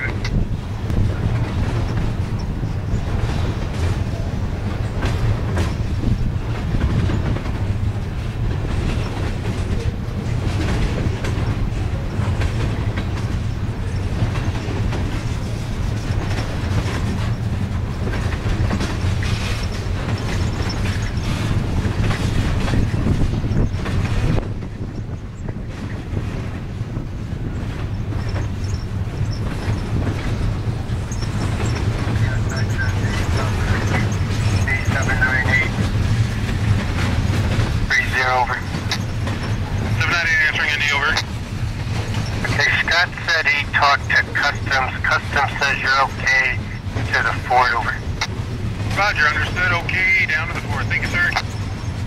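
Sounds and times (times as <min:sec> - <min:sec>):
wheels clicking over rail joints: 0:00.0 - 0:42.6
freight train rumbling past: 0:00.0 - 0:52.0.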